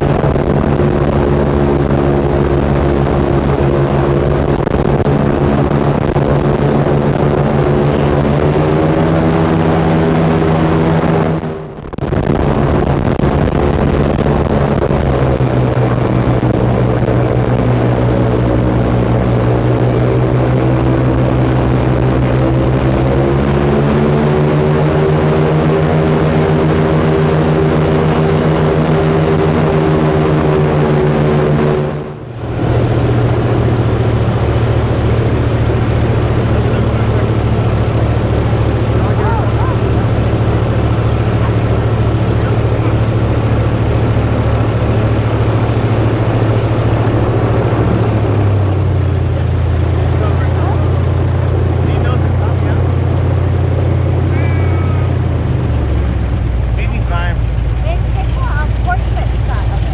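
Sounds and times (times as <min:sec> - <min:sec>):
airboat engine and propeller drone: 0:00.0 - 0:59.9.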